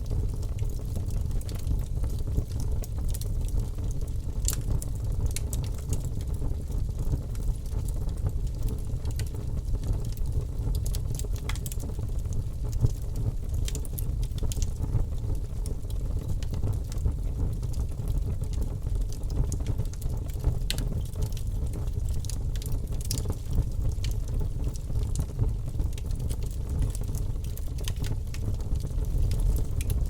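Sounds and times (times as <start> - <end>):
fire burning with low rumble: 0.0 - 30.0
wood crackling and popping: 0.0 - 30.0.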